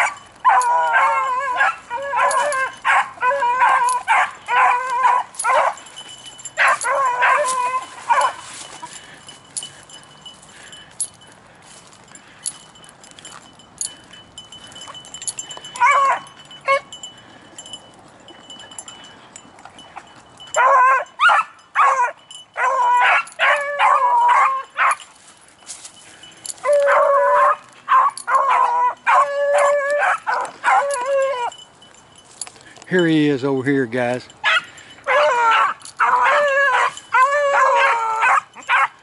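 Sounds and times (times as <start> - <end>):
beagle baying: 0.0 - 11.6, 12.2 - 25.1, 26.0 - 31.7, 34.4 - 39.0.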